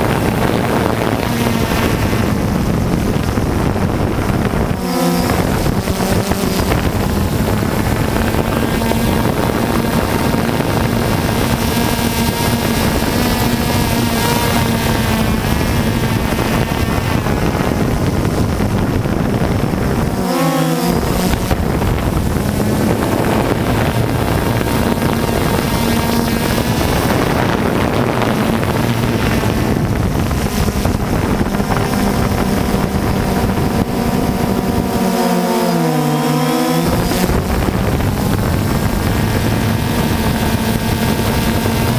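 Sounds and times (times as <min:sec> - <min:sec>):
drone motors humming: 0:00.0 - 0:41.9
wind on microphone: 0:00.0 - 0:41.9.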